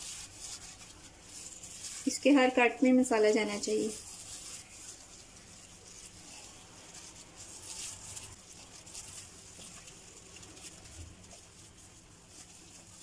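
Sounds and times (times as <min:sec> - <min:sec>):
wet squishing of marinade: 0:00.0 - 0:13.0.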